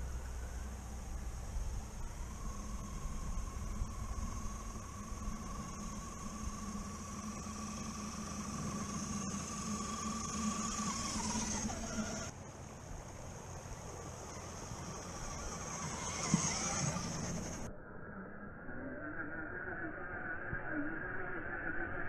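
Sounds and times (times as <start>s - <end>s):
electric motor and gear whine: 0.0s - 22.0s.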